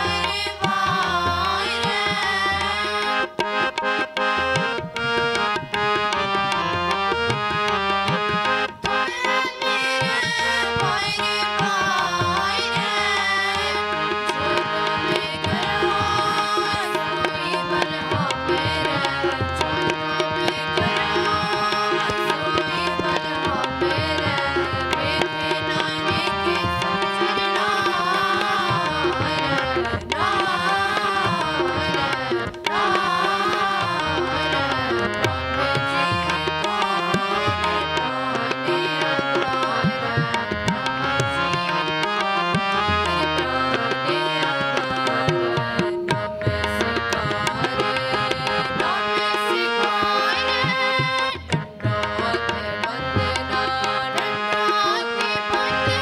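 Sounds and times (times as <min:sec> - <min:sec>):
group singing: 0:00.0 - 0:03.7, 0:09.0 - 0:42.2, 0:43.0 - 0:56.0
harmoniums playing: 0:00.0 - 0:56.0
tabla beat: 0:00.0 - 0:56.0.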